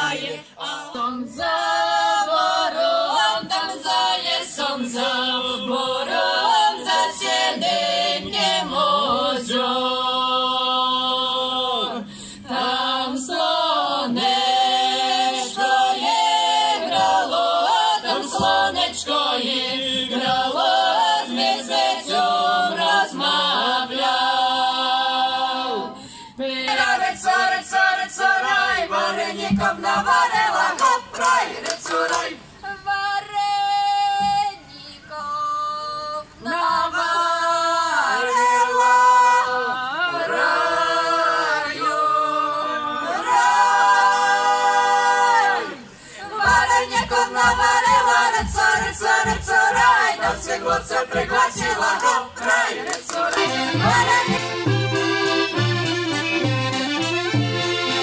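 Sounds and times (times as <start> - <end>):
group singing a cappella: 0.0 - 58.0.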